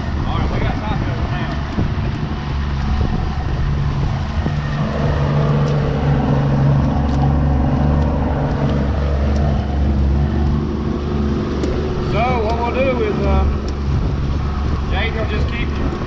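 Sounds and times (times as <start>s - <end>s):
outboard motor humming: 0.0s - 16.0s
water noise: 0.0s - 16.0s
wind: 0.0s - 16.0s.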